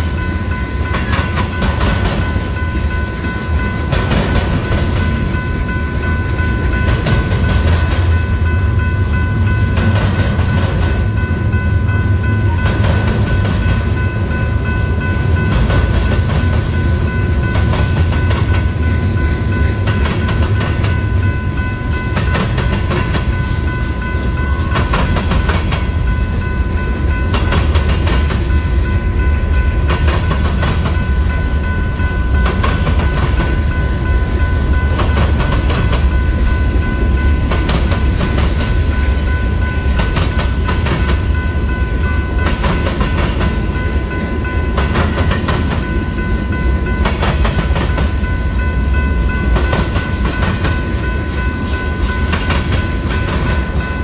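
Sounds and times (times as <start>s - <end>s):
high ringing tone: 0.0s - 47.1s
freight train rumbling: 0.0s - 54.0s.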